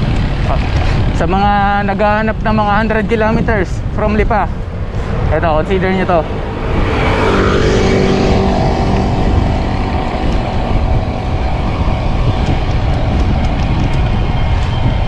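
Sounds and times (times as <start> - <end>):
vehicle engine hum: 0.0 - 15.0
wind rushing over microphone: 0.0 - 15.0.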